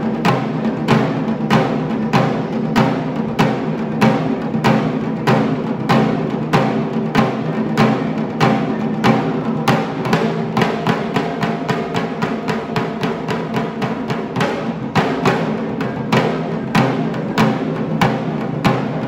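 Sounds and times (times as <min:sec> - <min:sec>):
barrel drums beaten: 0:00.0 - 0:19.0.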